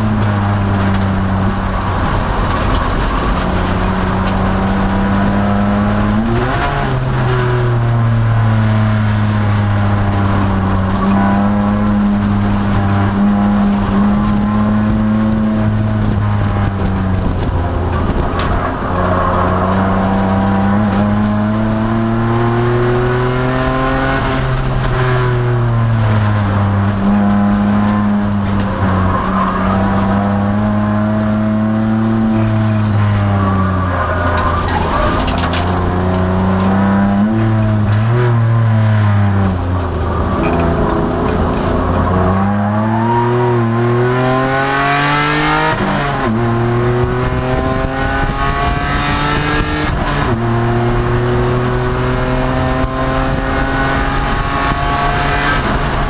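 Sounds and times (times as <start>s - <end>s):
car engine under race load: 0.0s - 56.0s
road and tyre noise: 0.0s - 56.0s.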